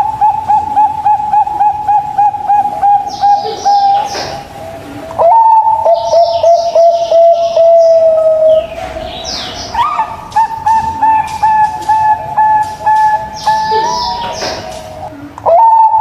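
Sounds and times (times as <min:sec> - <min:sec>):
dove cooing: 0:00.0 - 0:16.0
faint high bird chirps: 0:00.0 - 0:16.0.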